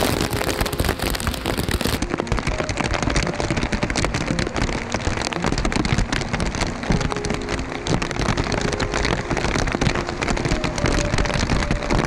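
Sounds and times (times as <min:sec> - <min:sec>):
heavy rain downpour: 0:00.0 - 0:12.0.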